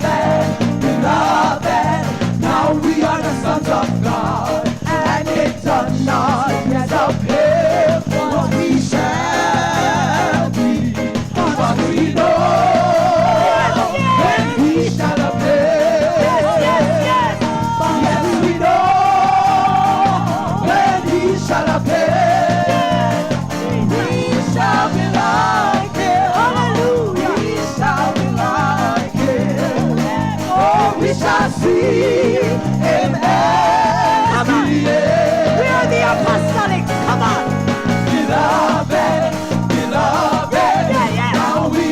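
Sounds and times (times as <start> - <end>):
church band playing gospel music: 0.0 - 41.9.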